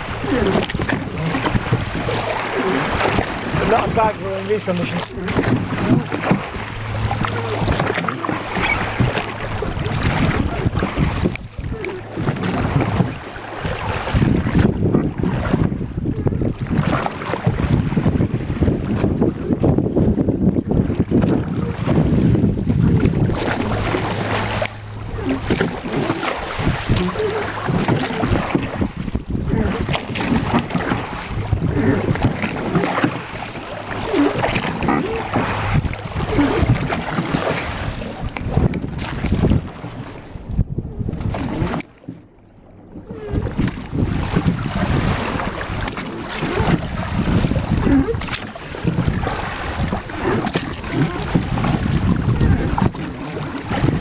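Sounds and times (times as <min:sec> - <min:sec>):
wind buffeting microphone: 0:00.0 - 0:41.9, 0:42.5 - 0:54.0
water splashing around boat: 0:00.0 - 0:54.0.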